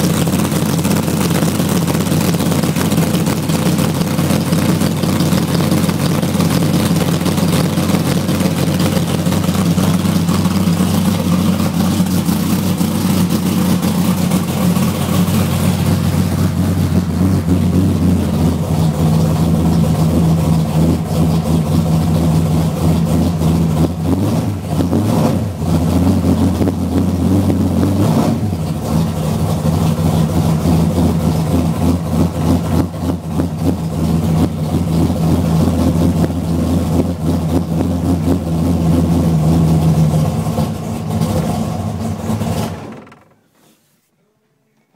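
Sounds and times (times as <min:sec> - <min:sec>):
deep engine idling: 0:00.0 - 0:43.2.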